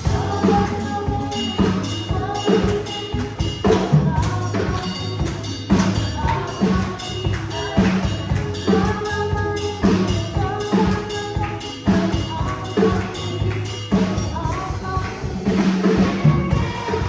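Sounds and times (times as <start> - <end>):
drum kit beat: 0.0 - 17.0
live gospel band music: 0.0 - 17.0.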